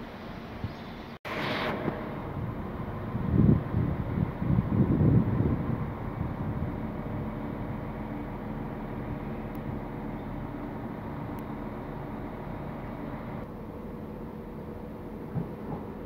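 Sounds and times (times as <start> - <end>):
train coaches rolling: 1.5 - 16.0.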